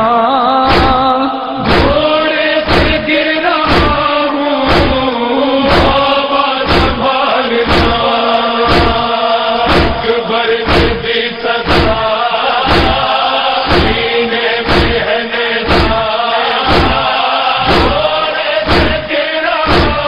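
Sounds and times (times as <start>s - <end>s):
chorus chanting a drone: 0.0s - 20.0s
chest-beating thumps: 0.7s - 16.1s, 16.7s - 20.0s.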